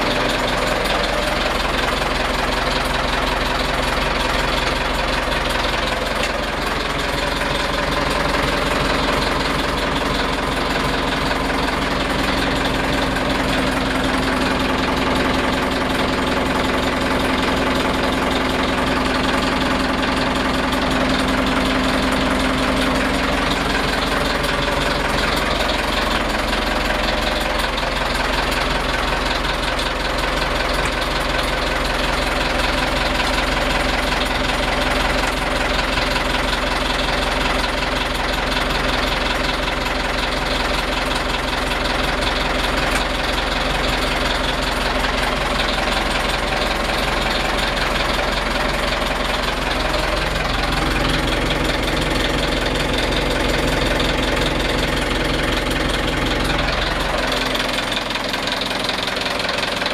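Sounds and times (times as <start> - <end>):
boat diesel engine idling: 0.0 - 59.9.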